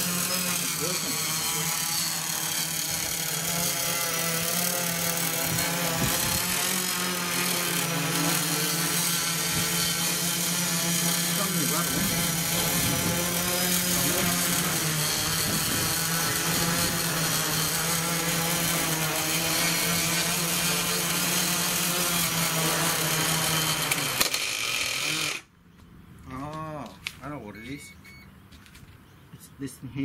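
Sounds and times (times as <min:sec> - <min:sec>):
quadcopter motors buzzing: 0:00.0 - 0:25.5.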